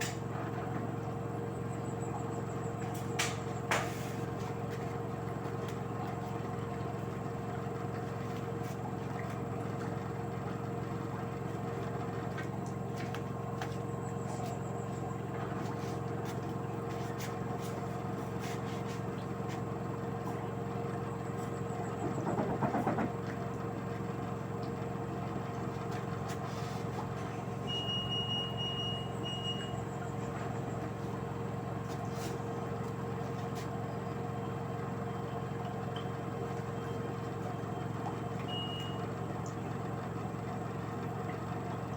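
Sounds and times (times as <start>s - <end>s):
washing machine motor hum: 0.2s - 41.9s.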